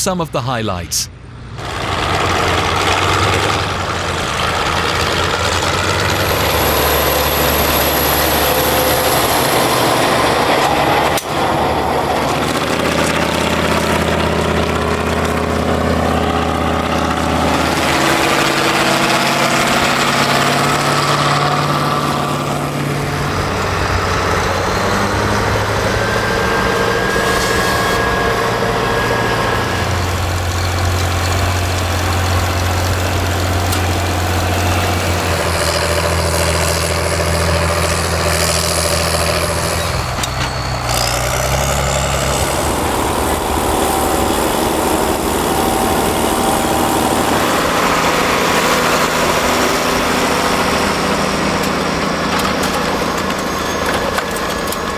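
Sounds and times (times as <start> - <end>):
tractor engines running: 0.0 - 54.9.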